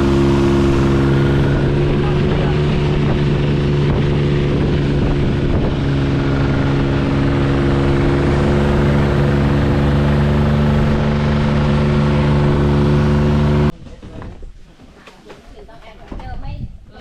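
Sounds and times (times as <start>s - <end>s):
motorboat engine running: 0.0s - 13.7s.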